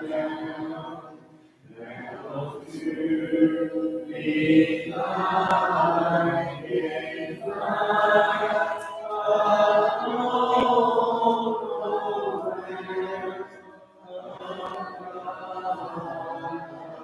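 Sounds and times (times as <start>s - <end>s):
congregation singing a hymn: 0.0s - 17.0s.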